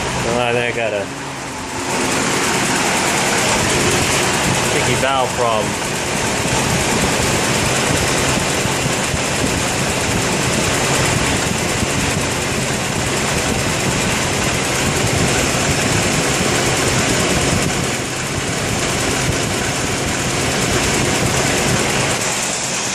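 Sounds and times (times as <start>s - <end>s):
car engine idling with misfire: 0.0s - 22.9s.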